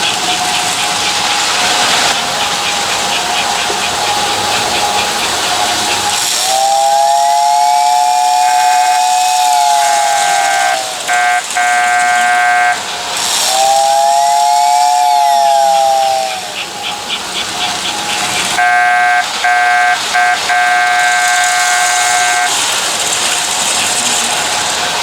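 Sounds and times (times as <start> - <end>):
buzzy whistle toot: 0.0 - 24.2
motor hum with fast ticking: 0.0 - 25.0
toy train steam whistle: 0.0 - 25.0.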